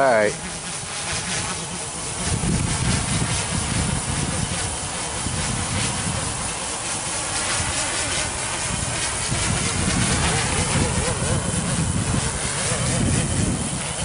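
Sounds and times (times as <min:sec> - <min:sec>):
drone propellers whirring: 0:00.0 - 0:14.0
gusty low rumble: 0:00.0 - 0:14.0.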